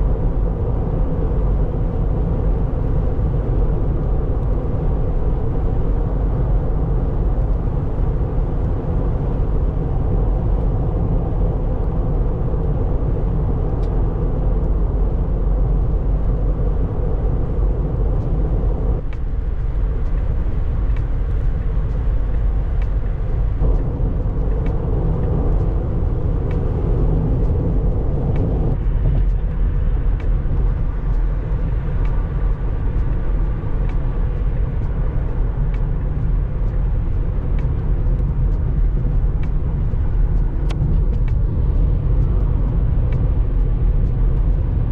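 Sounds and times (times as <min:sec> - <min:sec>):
road and tyre noise: 0:00.0 - 0:44.9.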